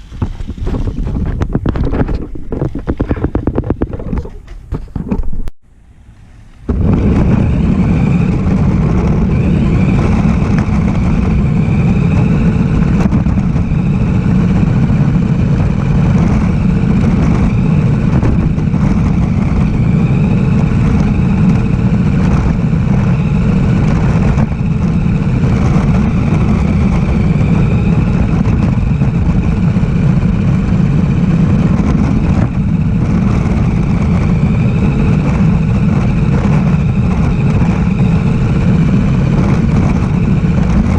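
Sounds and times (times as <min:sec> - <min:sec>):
rc car rumble: 0:00.0 - 0:40.9.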